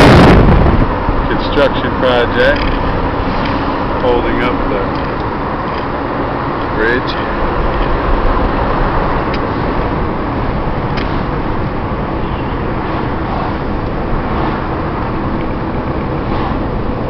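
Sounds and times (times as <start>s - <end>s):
tyres and engine rumble: 0.0s - 17.0s.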